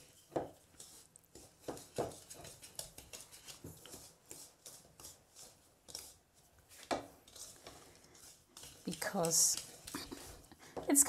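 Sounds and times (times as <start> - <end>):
whisk scraping and knocking in bowl: 0.0 - 11.0.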